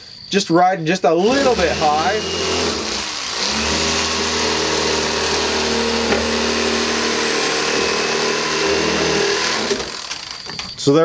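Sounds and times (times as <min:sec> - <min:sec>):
electric knife motor hum: 0:01.2 - 0:10.4.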